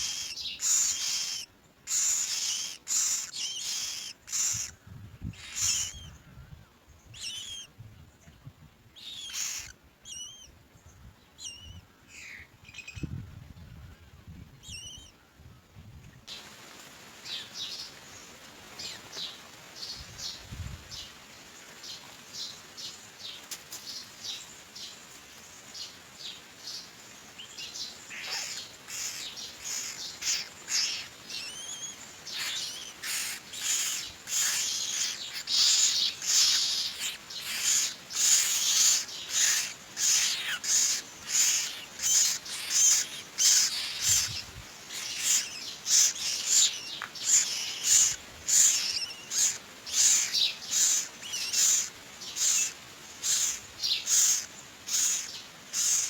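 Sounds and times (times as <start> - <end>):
myna chicks raspy calls: 0.0 - 6.4, 7.0 - 7.8, 9.0 - 10.6, 11.3 - 13.2, 14.6 - 15.2, 17.2 - 21.1, 25.7 - 56.0.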